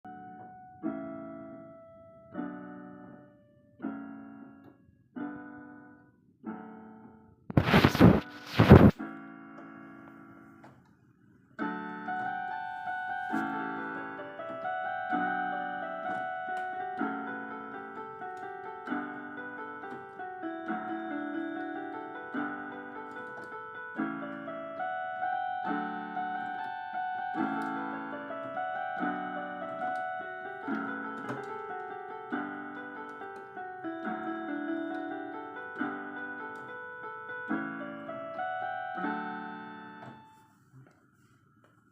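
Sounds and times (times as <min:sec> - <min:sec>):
gentle piano melody: 0:00.0 - 0:10.9, 0:11.5 - 0:40.6.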